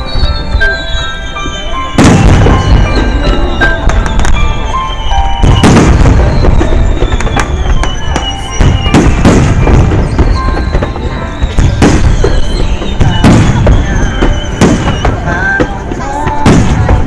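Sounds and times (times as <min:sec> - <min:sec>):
music: 0:00.0 - 0:17.0
firework booms: 0:01.4 - 0:17.0
firework crackling pops: 0:02.0 - 0:04.7, 0:05.3 - 0:17.0.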